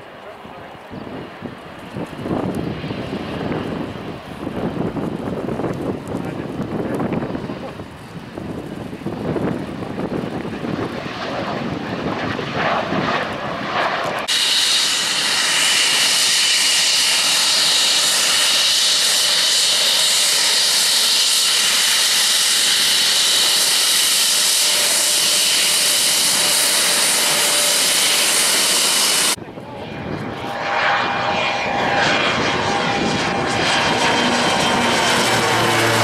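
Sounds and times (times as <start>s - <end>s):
jet engine high-pitched whine: 0.0s - 36.0s
jet engine rumble: 0.0s - 36.0s.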